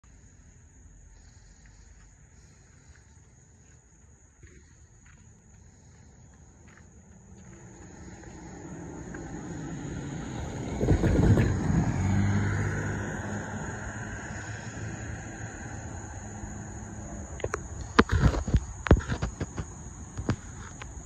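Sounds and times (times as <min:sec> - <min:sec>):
low outdoor rumble: 0:00.0 - 0:21.0
road vehicle approaching: 0:00.0 - 0:21.0.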